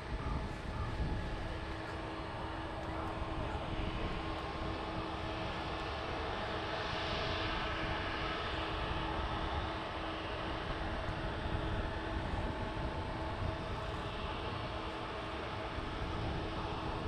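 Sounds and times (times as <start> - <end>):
jet engines rushing and whining: 0.0 - 17.0.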